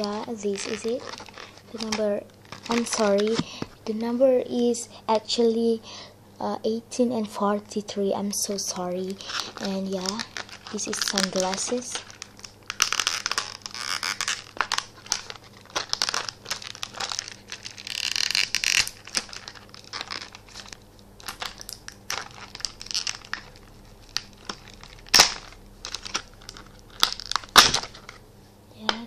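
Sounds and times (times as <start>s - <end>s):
plastic packaging crinkling: 0.0s - 4.0s, 8.4s - 28.2s.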